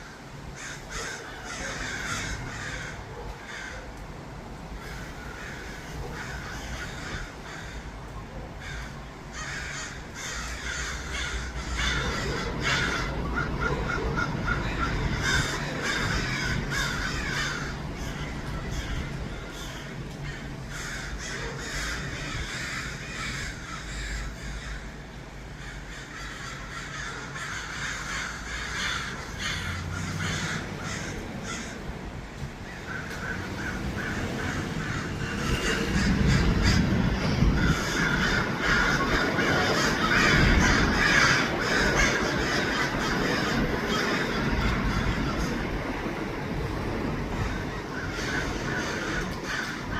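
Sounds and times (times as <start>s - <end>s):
crows cawing: 0.0s - 4.0s, 4.7s - 46.0s, 47.2s - 49.9s.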